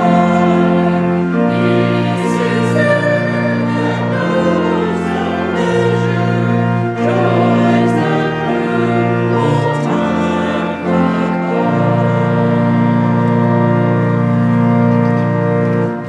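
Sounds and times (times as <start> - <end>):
voices singing: 0.0 - 13.2
church organ playing a hymn: 0.0 - 16.0.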